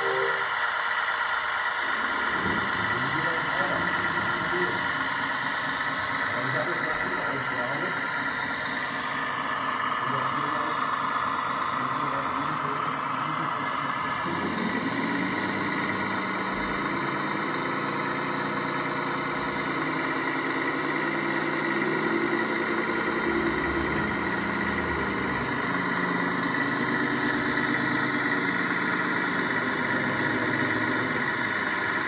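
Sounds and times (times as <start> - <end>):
model truck engine drone: 0.0 - 32.0
steady high whine: 0.0 - 32.0.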